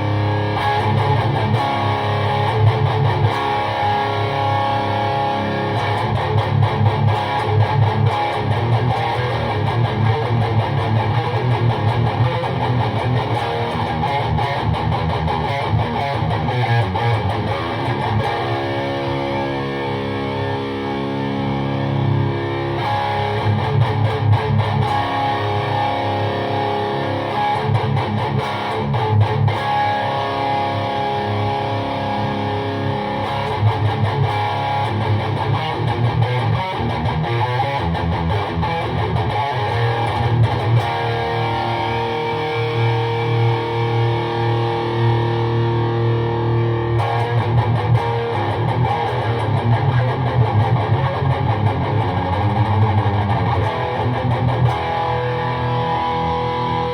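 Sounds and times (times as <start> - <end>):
electric guitar rock chords: 0.0 - 56.9.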